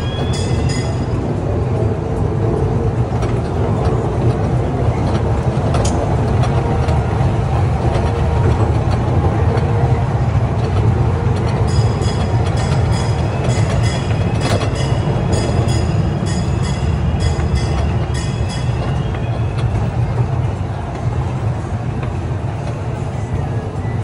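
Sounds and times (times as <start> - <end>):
ride train rumbling on track: 0.0 - 24.0.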